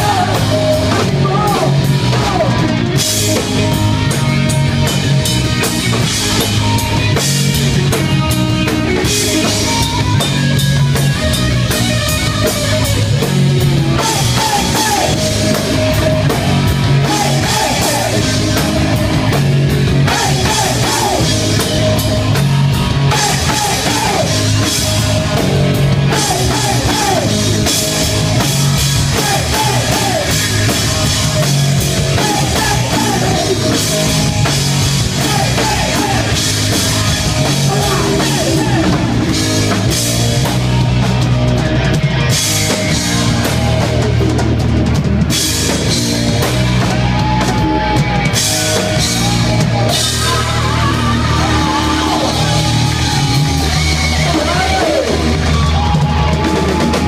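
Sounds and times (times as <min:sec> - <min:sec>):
hard rock band playing: 0:00.0 - 0:57.0.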